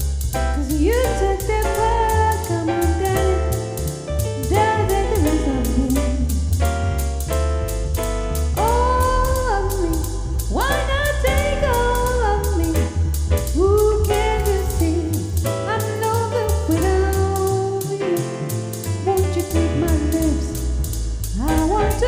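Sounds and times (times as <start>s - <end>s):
heavy bass line: 0.0s - 22.0s
person singing sliding notes: 0.0s - 22.0s
steady drum beat: 0.0s - 22.0s.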